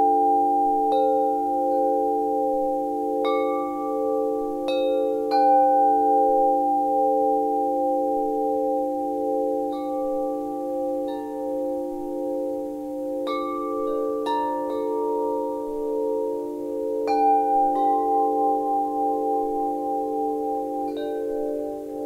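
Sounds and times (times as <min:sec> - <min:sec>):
wind chimes ringing: 0:00.0 - 0:22.0.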